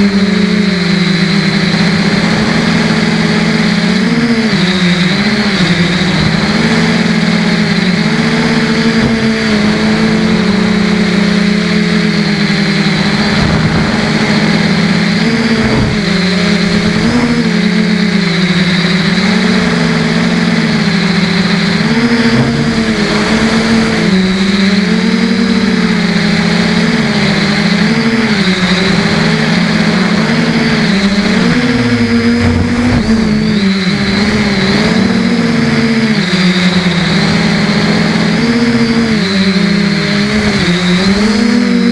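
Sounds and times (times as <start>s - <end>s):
drone motors and propellers whining: 0.0s - 41.9s.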